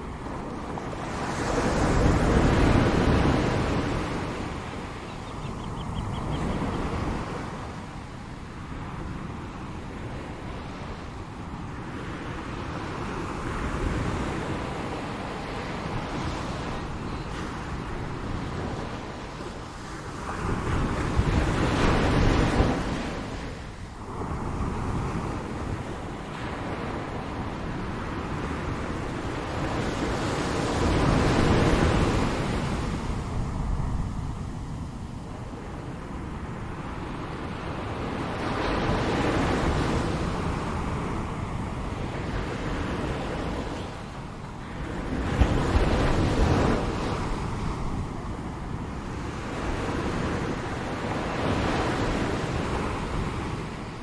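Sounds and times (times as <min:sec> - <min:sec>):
ocean waves breaking: 0:00.0 - 0:54.0
wind noise on microphone: 0:00.0 - 0:54.0.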